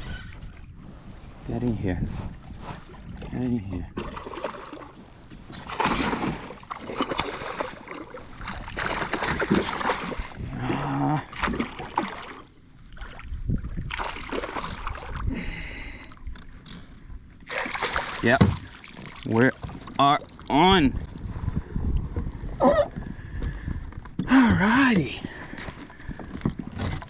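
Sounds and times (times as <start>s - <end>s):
water splashing and sloshing: 0.0s - 24.5s, 25.1s - 27.0s.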